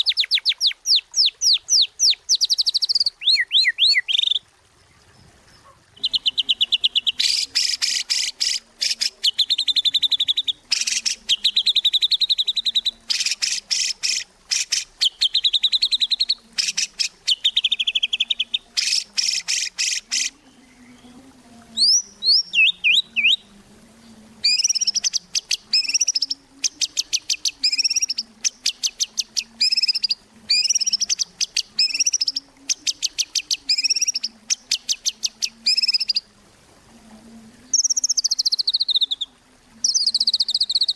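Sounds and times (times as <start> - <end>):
songbird singing: 0.0 - 36.3, 37.5 - 40.9.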